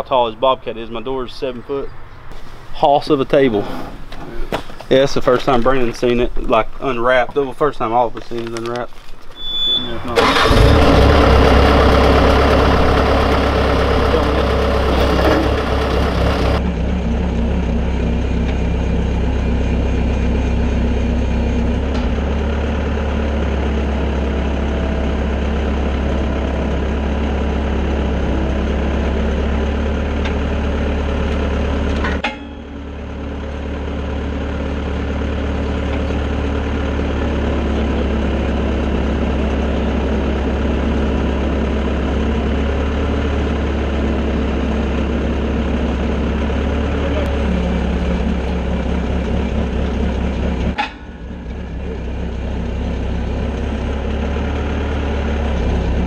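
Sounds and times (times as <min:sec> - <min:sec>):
loader engine idling: 0:07.0 - 0:56.0.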